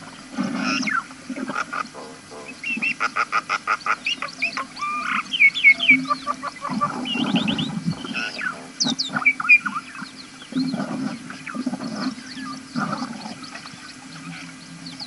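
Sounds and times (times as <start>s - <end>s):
birds chirping: 0.0s - 15.0s
low rumbling noise: 0.0s - 15.0s.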